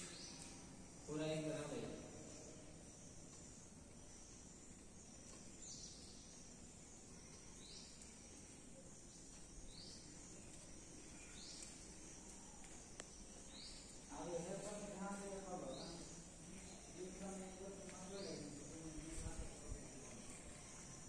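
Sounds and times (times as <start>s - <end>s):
faint hiss: 0.0s - 21.0s
high insect chirp: 0.0s - 21.0s.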